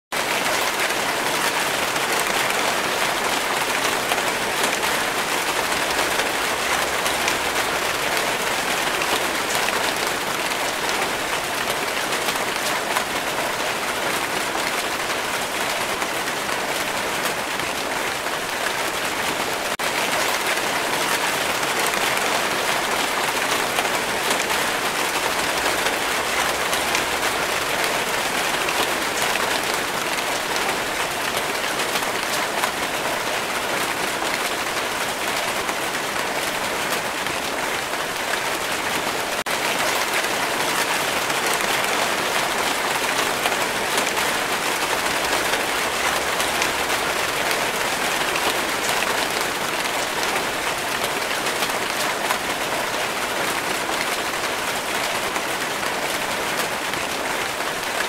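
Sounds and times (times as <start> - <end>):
steady rainfall: 0.1 - 58.0.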